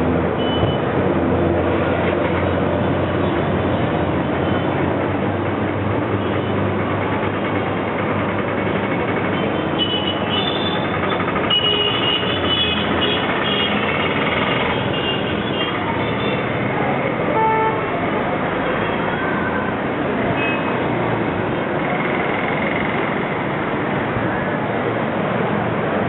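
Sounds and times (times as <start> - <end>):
heavy street traffic: 0.0 - 26.0.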